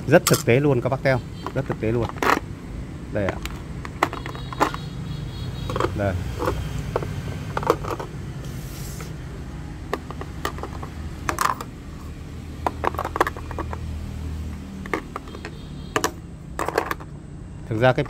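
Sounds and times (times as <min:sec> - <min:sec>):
batteries clicking and clunking: 0:00.1 - 0:02.5, 0:03.1 - 0:08.2, 0:09.8 - 0:18.0.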